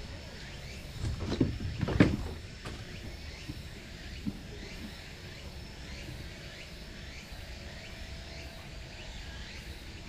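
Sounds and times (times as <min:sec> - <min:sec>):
high bird or insect chirps: 0:00.0 - 0:10.0.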